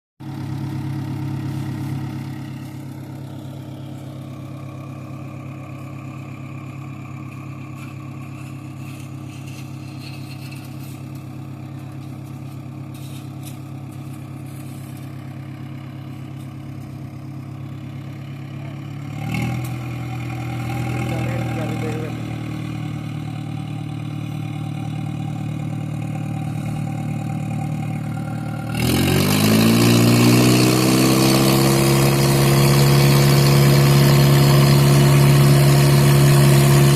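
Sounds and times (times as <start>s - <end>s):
tractor diesel engine running: 0.2s - 36.9s.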